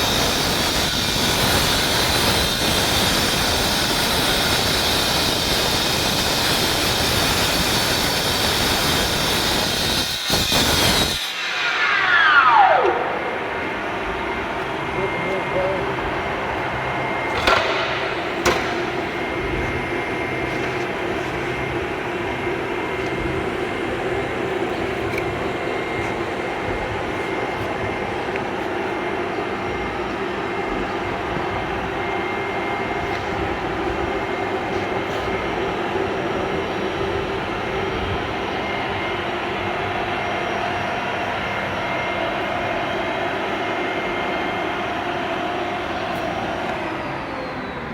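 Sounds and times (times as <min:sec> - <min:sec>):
steady machine drone: 0:00.0 - 0:47.9.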